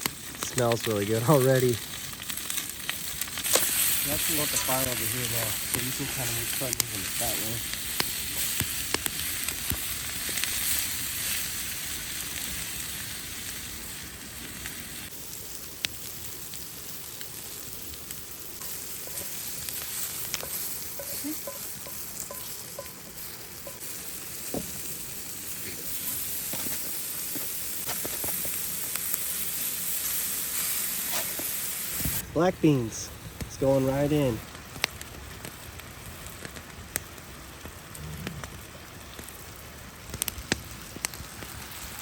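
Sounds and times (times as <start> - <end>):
vegetables sizzling in a pan: 0.0 - 32.2, 37.0 - 42.0.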